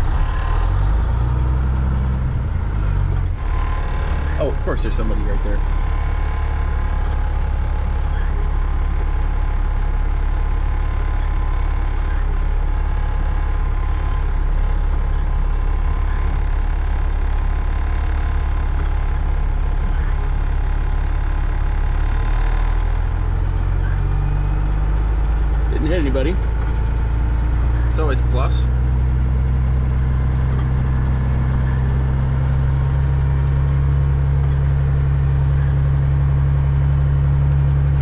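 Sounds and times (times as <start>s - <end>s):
diesel truck engine running: 0.0s - 38.0s.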